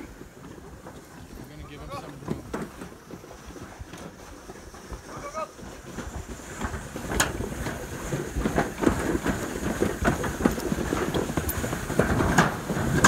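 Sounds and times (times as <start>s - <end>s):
sled rattling down track: 0.0s - 13.0s.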